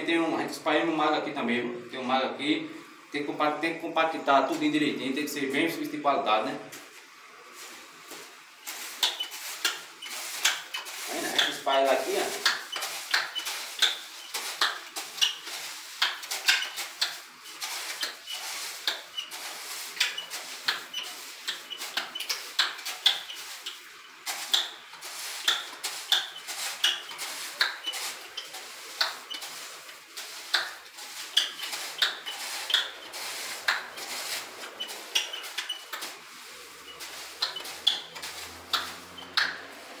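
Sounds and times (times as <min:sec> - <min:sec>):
shovel scraping concrete: 0:07.5 - 0:40.0.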